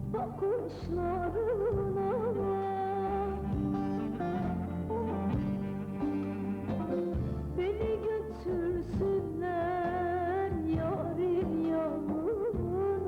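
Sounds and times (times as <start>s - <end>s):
sustained instrumental backing: 0.0s - 13.0s.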